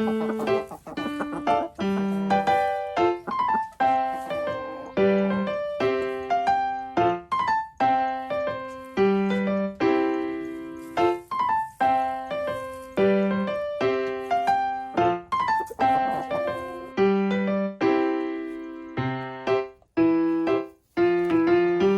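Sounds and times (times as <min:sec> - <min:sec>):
piano melody: 0:00.0 - 0:21.9.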